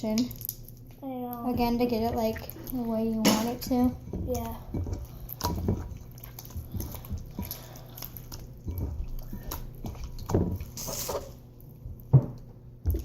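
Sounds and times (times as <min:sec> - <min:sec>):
slime squelching by hand: 0:00.0 - 0:12.1.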